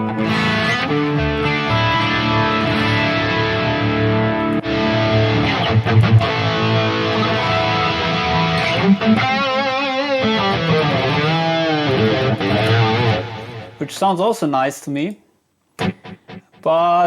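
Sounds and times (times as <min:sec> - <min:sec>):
electric guitar with chorus effect: 0:00.0 - 0:13.9, 0:15.8 - 0:16.8.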